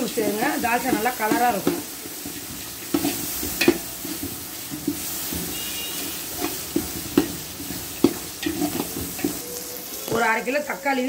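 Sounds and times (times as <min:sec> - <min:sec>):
food sizzling in hot oil: 0:00.0 - 0:11.0
metal ladle scraping pot: 0:00.8 - 0:10.4.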